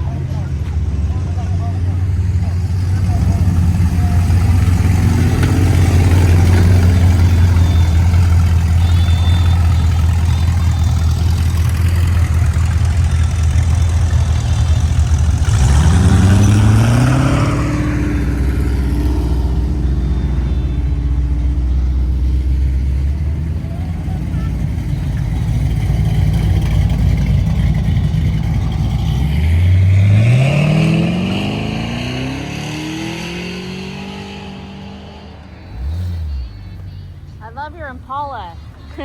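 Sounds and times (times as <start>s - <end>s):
car engines idling: 0.0s - 39.0s
car revving up: 0.0s - 39.0s.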